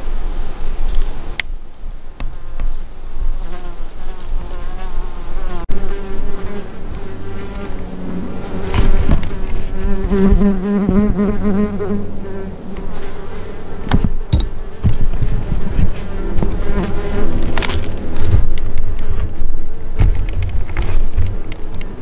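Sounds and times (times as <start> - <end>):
insect buzzing: 2.2 - 22.0.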